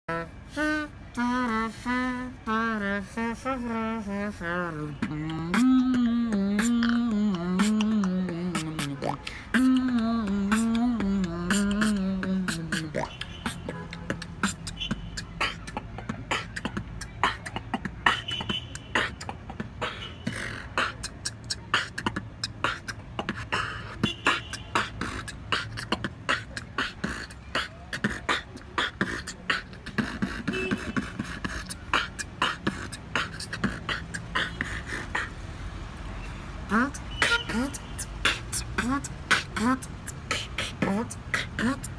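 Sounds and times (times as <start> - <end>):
human beatboxing: 0.1 - 41.9.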